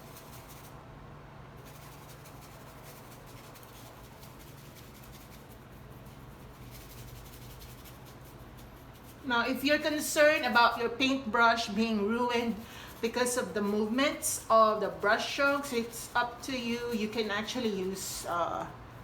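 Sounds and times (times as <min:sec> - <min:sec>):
steady low hum: 0:00.0 - 0:19.0
paint rubbing on canvas: 0:01.6 - 0:18.6.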